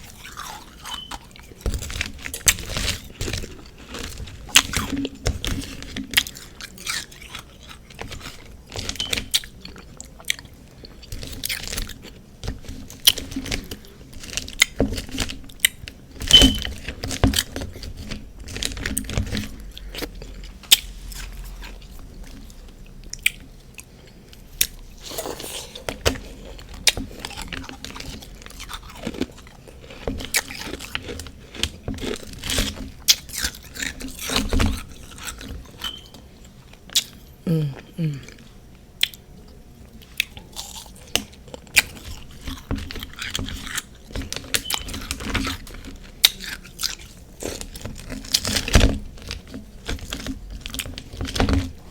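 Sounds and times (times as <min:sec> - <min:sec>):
person chewing crunchy frost: 0:00.0 - 0:16.1, 0:16.7 - 0:51.9.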